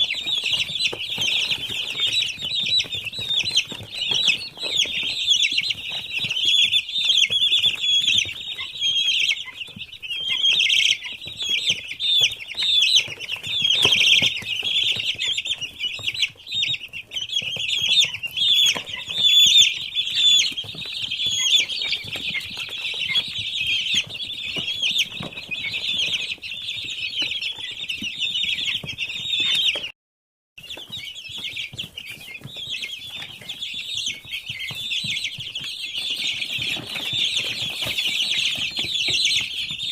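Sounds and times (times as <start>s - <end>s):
chicks peeping: 0.0s - 29.9s, 30.6s - 39.9s.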